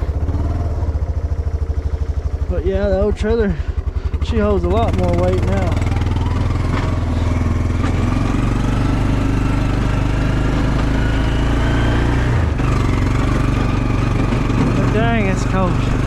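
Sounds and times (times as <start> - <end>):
small vehicle engine running: 0.0 - 16.0.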